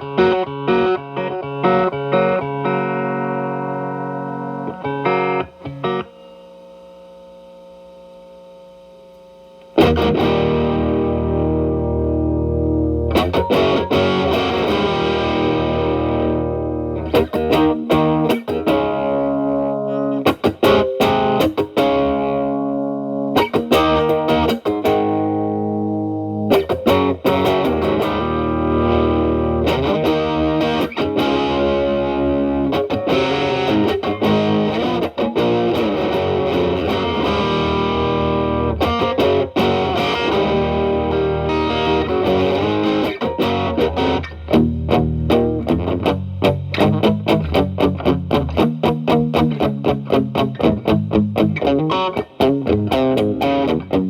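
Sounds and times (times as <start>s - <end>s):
distorted electric guitar chords: 0.0s - 6.8s, 9.7s - 54.0s.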